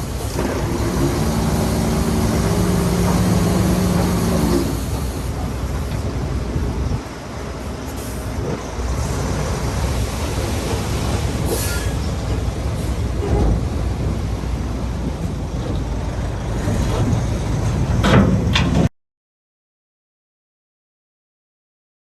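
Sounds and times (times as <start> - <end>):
bulldozer diesel engine running: 0.0 - 18.9.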